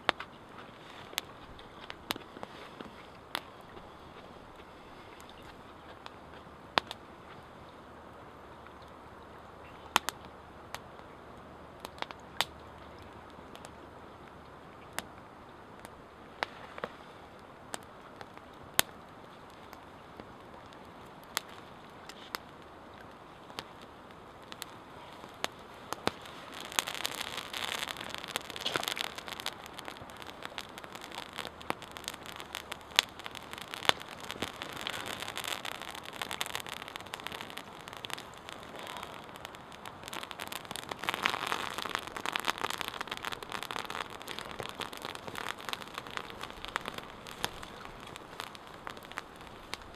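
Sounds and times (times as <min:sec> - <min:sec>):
fire popping: 0:00.0 - 0:07.6, 0:14.9 - 0:49.9
campfire crackling: 0:00.0 - 0:49.9.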